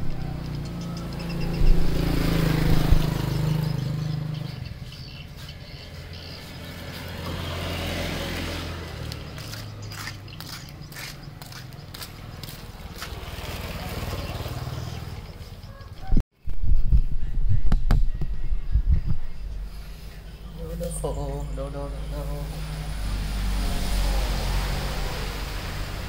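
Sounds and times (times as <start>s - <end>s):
vehicle engine humming: 0.0s - 16.2s, 18.3s - 26.0s.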